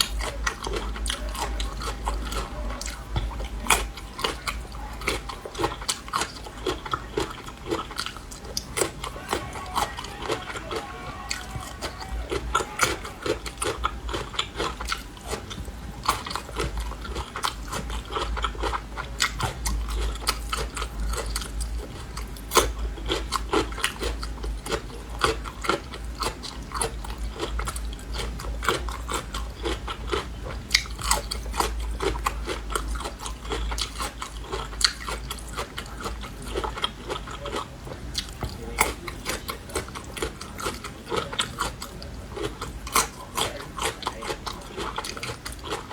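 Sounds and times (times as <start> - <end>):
crunchy chewing: 0.0 - 45.9.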